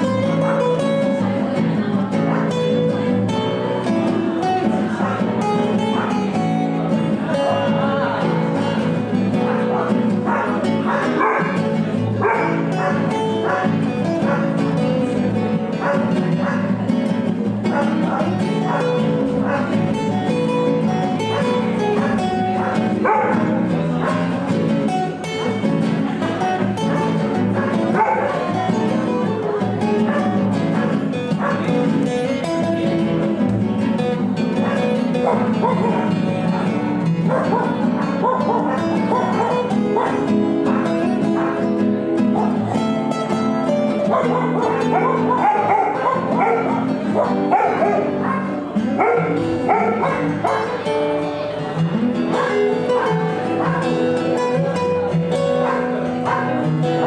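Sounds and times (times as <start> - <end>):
two acoustic guitars playing: 0.0 - 57.0.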